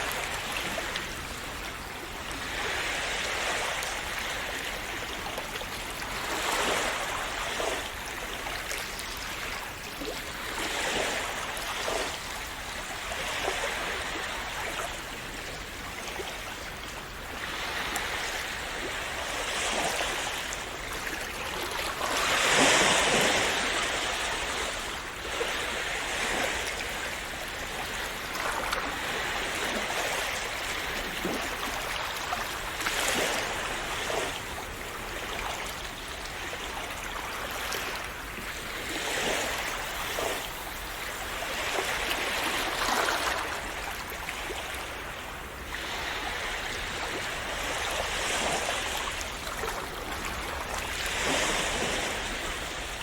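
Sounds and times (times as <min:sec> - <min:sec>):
sea waves washing on shore: 0:00.0 - 0:53.0.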